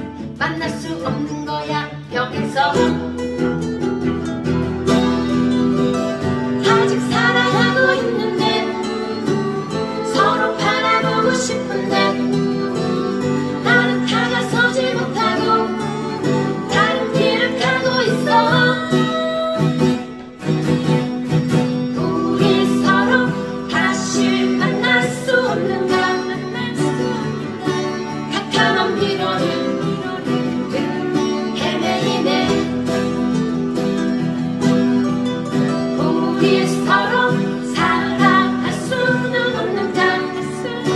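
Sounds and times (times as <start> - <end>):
guitar melody with bent notes: 0.0 - 40.9.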